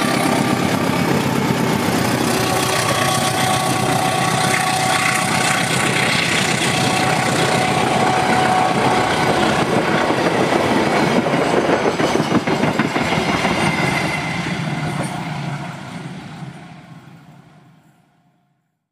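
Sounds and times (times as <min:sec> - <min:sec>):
train wheels clattering on rails: 0:00.0 - 0:16.4.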